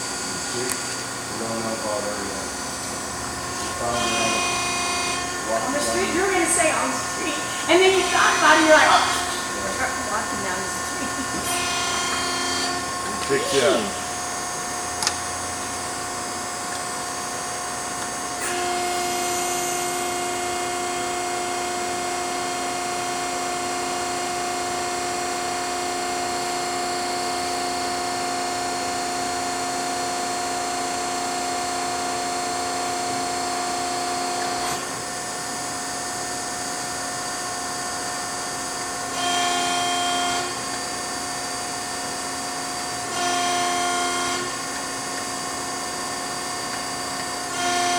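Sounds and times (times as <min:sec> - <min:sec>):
hydraulic pump motor whine: 0:00.0 - 0:47.9.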